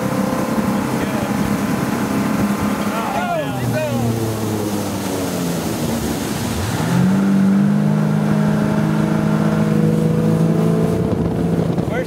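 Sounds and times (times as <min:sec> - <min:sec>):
boat engine droning: 0:00.0 - 0:12.0
water and wind rushing: 0:00.0 - 0:12.0.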